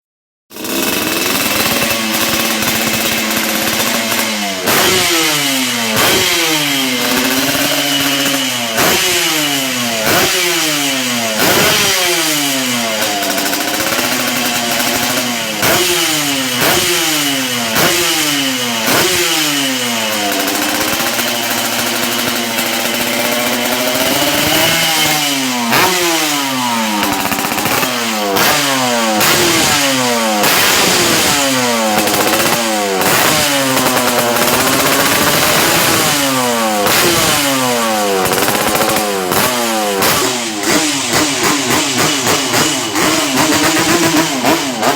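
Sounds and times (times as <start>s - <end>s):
two-stroke motorcycle engine revving: 0.5s - 44.9s.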